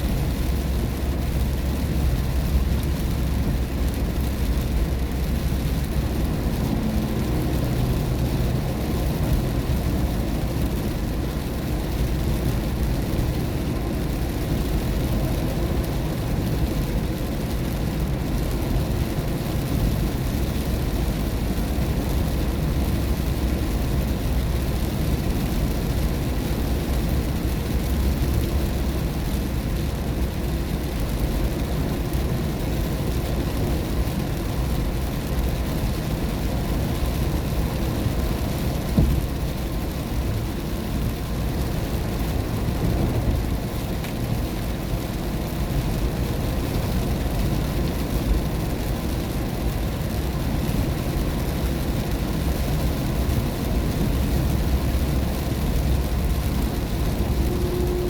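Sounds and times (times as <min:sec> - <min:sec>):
car engine and tyre noise: 0:00.0 - 0:58.0
rainwater hiss: 0:00.1 - 0:58.0.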